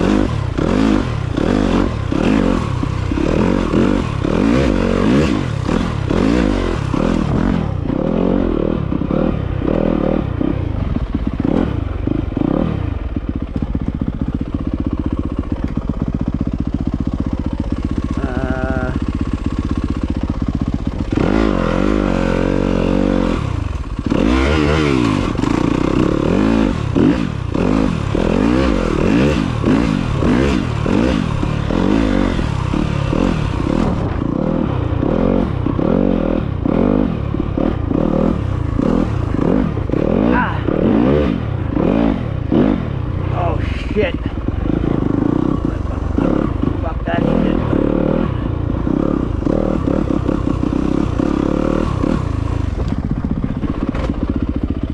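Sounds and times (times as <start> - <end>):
off-road motorcycle engine revving: 0.0 - 54.9.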